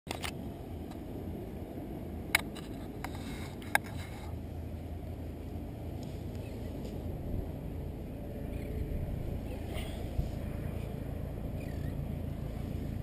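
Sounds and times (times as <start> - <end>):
wind and surf rumble: 0.1 - 13.0.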